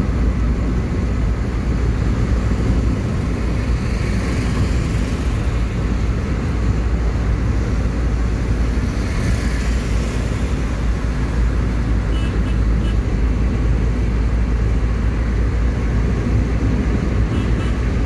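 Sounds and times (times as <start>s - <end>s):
road and engine noise: 0.0s - 18.0s.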